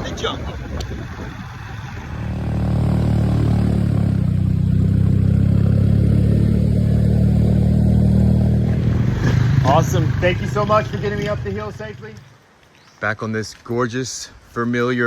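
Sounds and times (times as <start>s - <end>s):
motorcycle engine under load: 0.2s - 12.3s.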